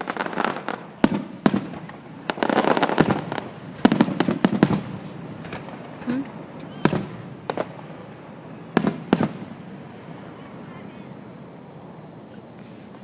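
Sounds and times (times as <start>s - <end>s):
fireworks bangs: 0.0s - 13.0s
fireworks crackling pops: 0.0s - 13.0s.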